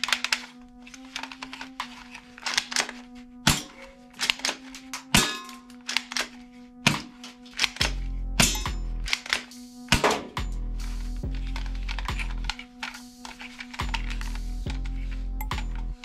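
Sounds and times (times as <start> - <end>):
toy guns clicking and clacking: 0.0 - 10.4, 11.4 - 14.9
background music: 0.0 - 16.0.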